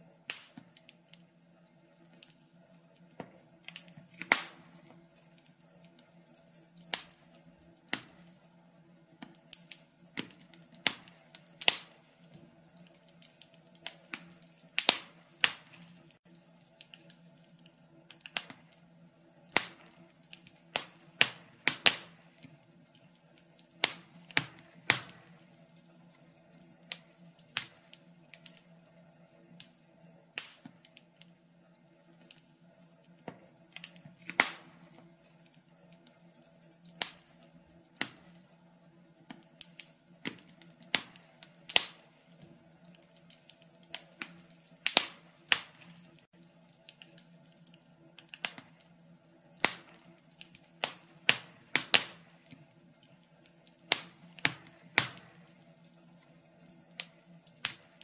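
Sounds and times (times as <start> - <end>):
faint steady hum: 0.0 - 58.0
fire crackling and popping: 0.0 - 58.0.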